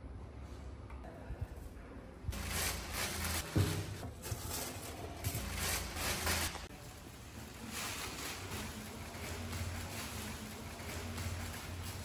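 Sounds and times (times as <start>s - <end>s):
plastic garbage bag rustling: 2.4s - 12.0s.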